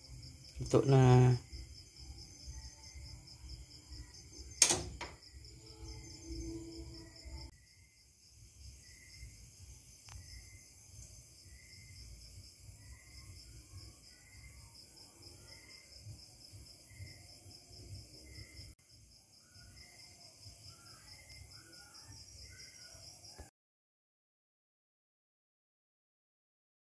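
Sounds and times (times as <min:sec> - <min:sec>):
insects trilling: 0:00.0 - 0:23.4
low insect chirp: 0:00.0 - 0:23.5.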